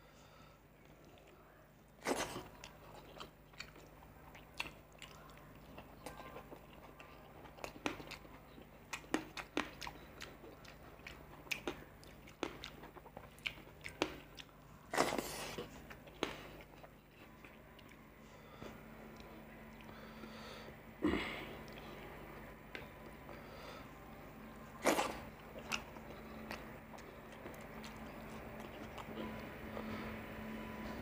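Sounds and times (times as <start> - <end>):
man chewing with wet mouth sounds: 0.7 - 20.7, 21.5 - 31.0.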